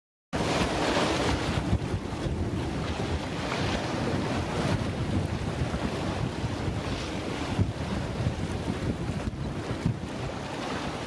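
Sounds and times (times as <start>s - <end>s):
waves rushing along hull: 0.4s - 11.0s
wind buffeting microphone: 0.4s - 11.0s.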